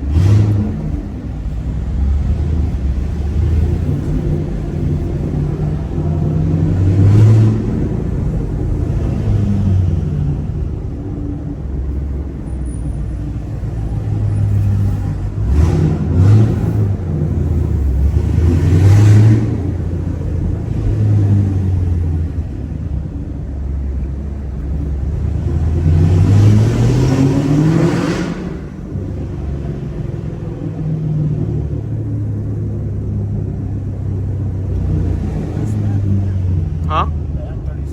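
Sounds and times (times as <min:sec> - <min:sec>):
car engine revving while driving: 0:00.0 - 0:37.9.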